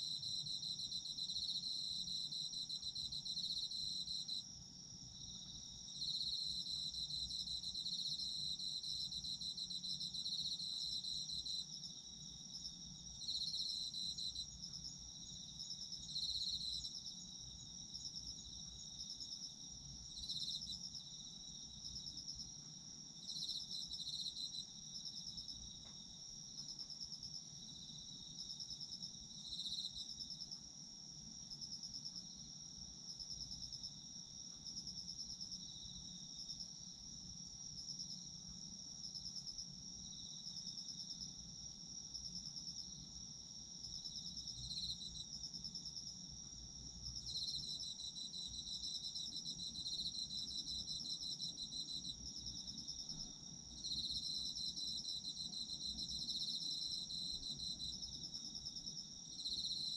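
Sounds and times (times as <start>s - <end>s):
lower cricket chirping call: 0.0s - 59.9s.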